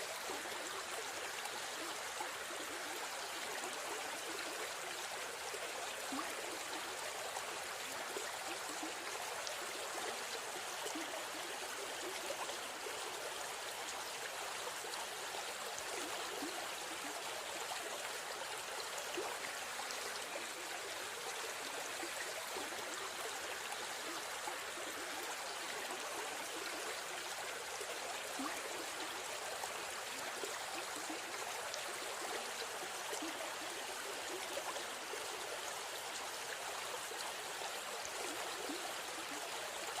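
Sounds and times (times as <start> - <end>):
stream flowing: 0.0 - 40.0.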